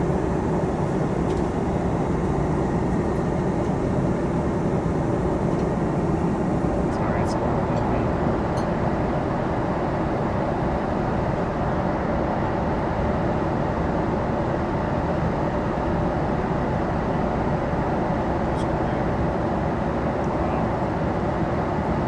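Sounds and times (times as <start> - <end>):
airliner cabin engine and airflow rush: 0.0 - 22.0.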